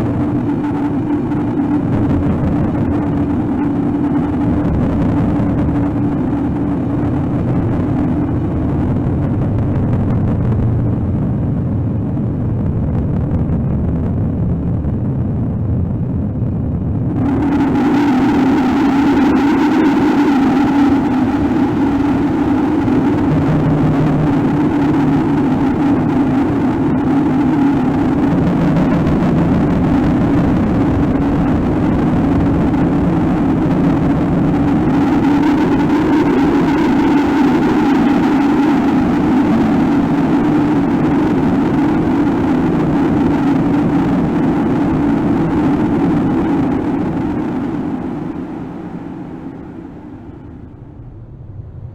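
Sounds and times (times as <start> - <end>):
low droning hum: 0.0 - 51.9.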